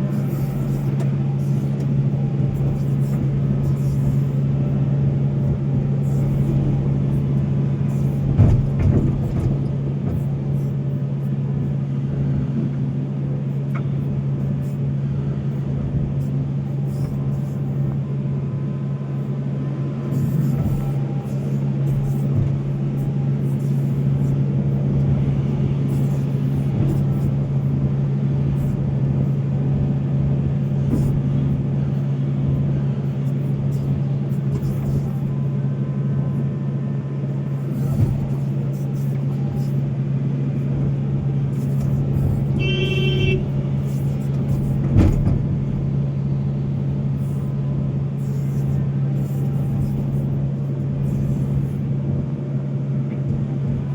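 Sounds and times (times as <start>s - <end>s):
excavator diesel engine droning: 0.0s - 53.9s.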